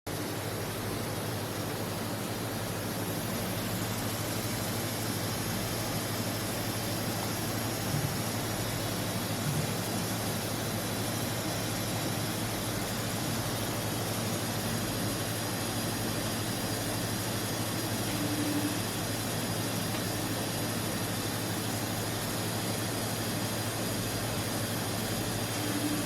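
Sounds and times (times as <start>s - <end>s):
machine hum and hiss: 0.1s - 26.0s.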